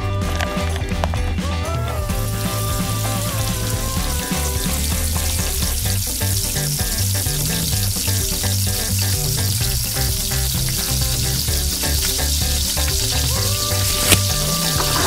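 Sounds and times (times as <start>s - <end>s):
background music: 0.0s - 15.0s
hot oil sizzling: 1.8s - 15.0s.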